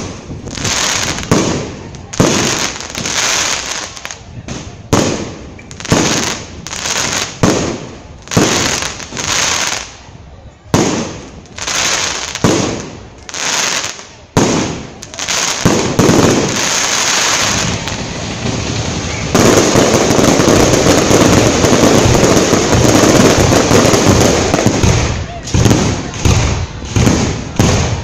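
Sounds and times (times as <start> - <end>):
firework bangs: 0.0 - 28.0
fireworks crackling: 0.0 - 28.0.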